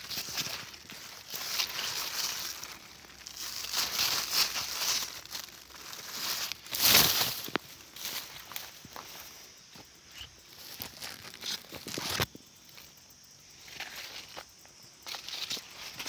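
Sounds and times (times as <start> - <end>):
rustling and crinkling: 0.0 - 12.9.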